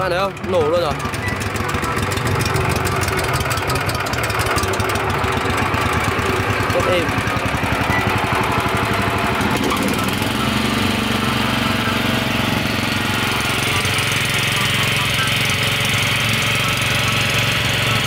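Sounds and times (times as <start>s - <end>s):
concrete saw engine running: 0.0s - 18.0s.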